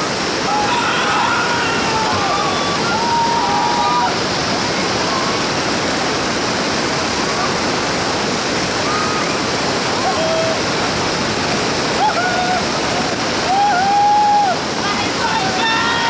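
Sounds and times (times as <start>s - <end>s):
river rapids roaring: 0.0s - 16.0s.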